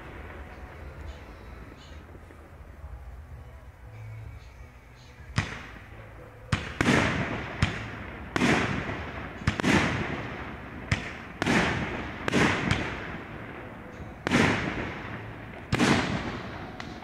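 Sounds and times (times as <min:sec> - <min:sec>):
echoing rumble: 0:00.0 - 0:04.2, 0:05.5 - 0:17.0.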